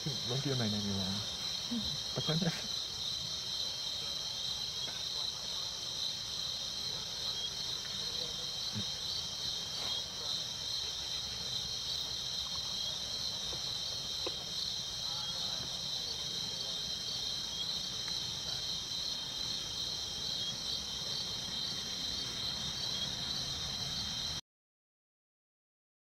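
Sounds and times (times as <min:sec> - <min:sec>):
crickets trilling: 0:00.0 - 0:24.4.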